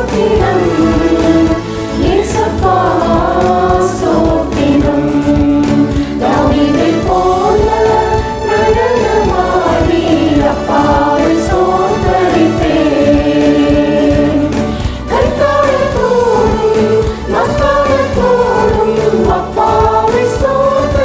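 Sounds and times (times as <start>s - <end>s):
backing track with drum beat: 0.0s - 21.0s
mixed choir singing worship song: 0.0s - 21.0s.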